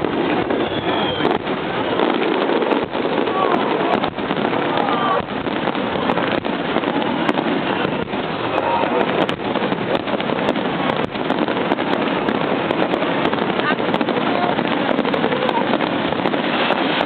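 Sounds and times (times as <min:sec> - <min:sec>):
fireworks barrage bangs and crackle: 0:00.0 - 0:17.0.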